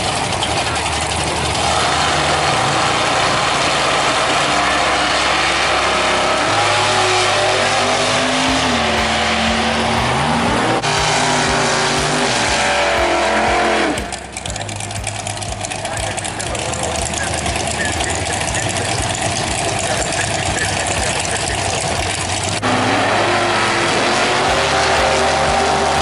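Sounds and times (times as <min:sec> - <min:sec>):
racing car engine revving: 0:00.0 - 0:26.0
tyre noise: 0:00.0 - 0:26.0.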